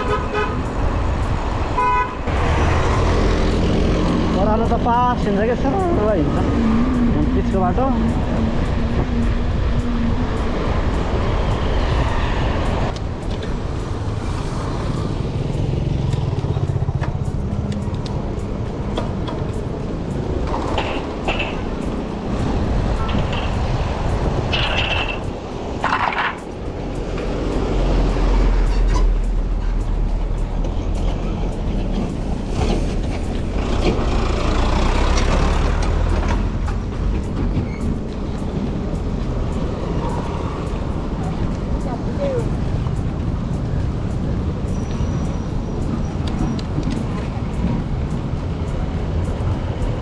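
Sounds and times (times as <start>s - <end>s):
passing traffic engine hum: 0.0s - 50.0s
wind rumbling on microphone: 0.0s - 50.0s.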